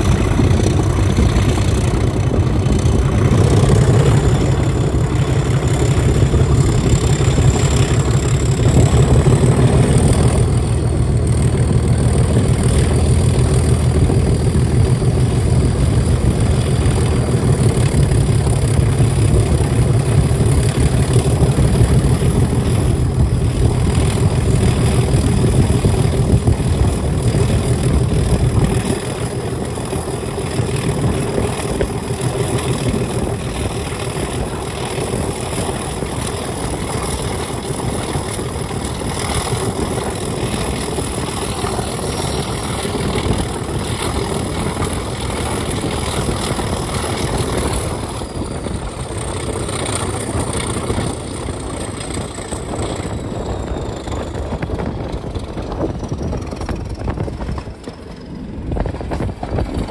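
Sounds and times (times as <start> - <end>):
diesel locomotive engine growling: 0.0 - 59.9.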